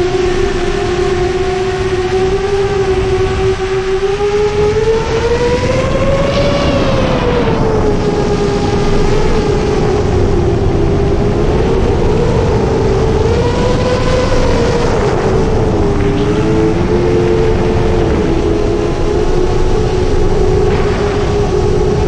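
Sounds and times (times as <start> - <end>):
drone motors whining: 0.0 - 22.0
wind noise: 0.0 - 22.0.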